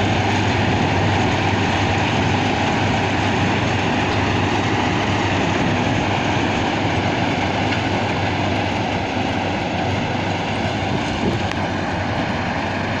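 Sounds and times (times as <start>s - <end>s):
harvesting machine running: 0.0s - 13.0s.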